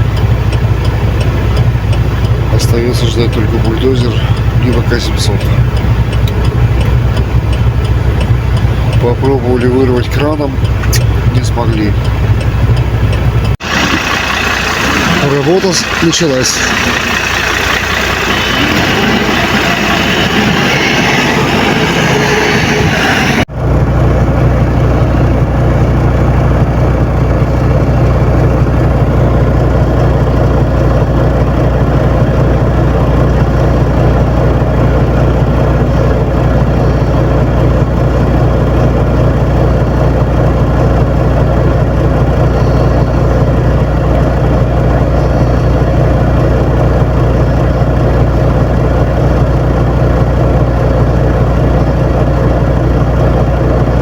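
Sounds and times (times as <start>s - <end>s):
heavy vehicle engine humming: 0.0s - 54.0s.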